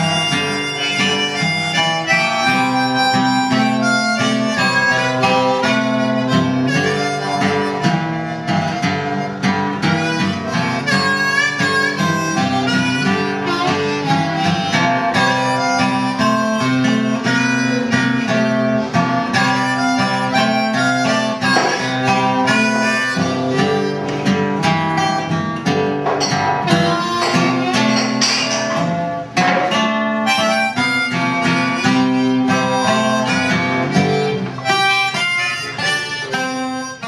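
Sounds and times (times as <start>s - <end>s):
acoustic guitar strumming: 0.0s - 37.0s
harmonica held notes: 0.0s - 37.0s.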